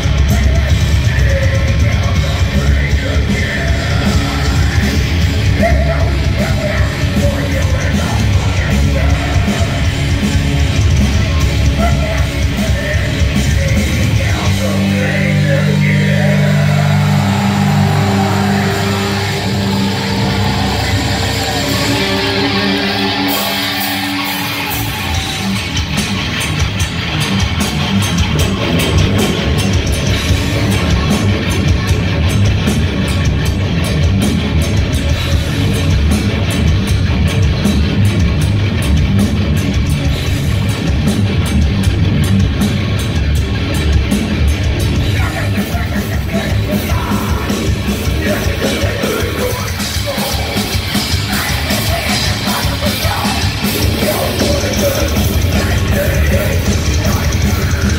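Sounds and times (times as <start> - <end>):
heavy metal band playing: 0.0 - 57.9.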